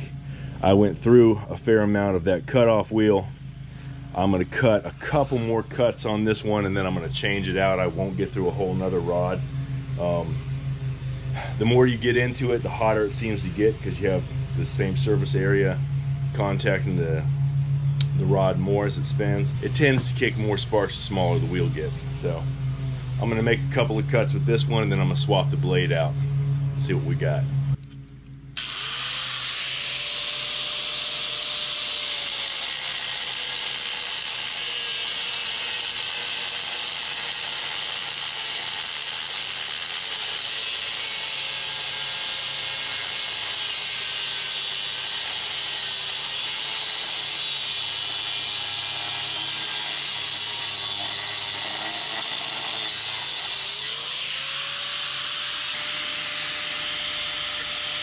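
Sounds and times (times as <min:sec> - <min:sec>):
angle grinder cutting steel: 0:01.8 - 0:17.3, 0:18.0 - 0:26.2, 0:28.6 - 0:58.0.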